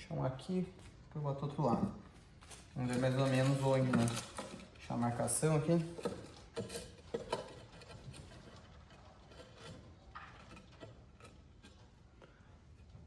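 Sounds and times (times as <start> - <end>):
hands scraping and rubbing bricks: 0.7 - 13.0.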